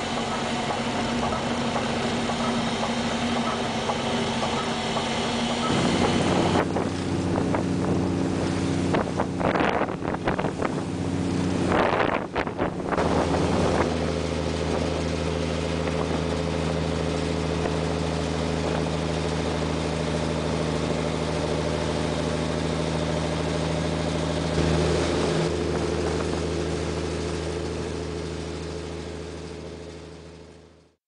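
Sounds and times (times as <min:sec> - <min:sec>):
rushing wake water: 0:00.0 - 0:30.3
boat engine drone: 0:00.0 - 0:31.0
wind: 0:00.0 - 0:31.0.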